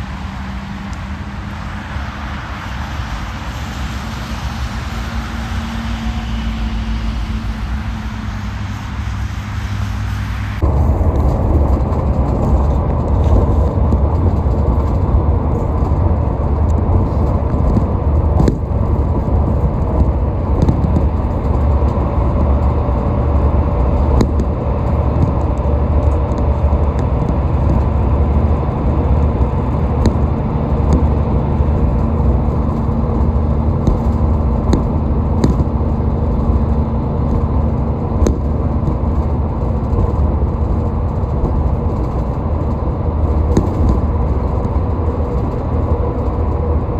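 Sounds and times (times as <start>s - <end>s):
highway traffic rumble: 0.0s - 46.9s.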